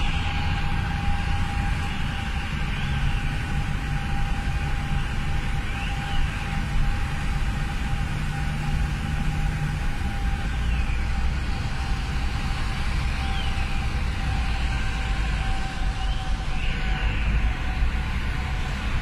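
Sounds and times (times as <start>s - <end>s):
car road and engine rumble: 0.0s - 19.0s
faint steady whine: 0.0s - 19.0s.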